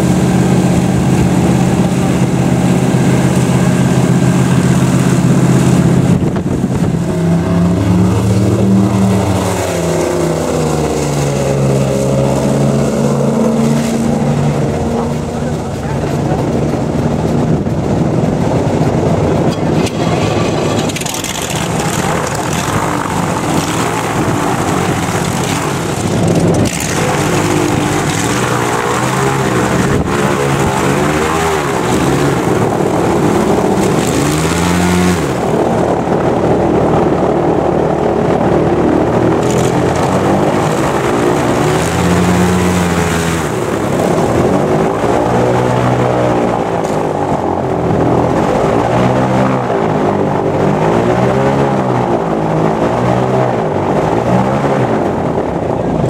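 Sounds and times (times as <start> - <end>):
airboat engine revving: 0.0 - 56.0.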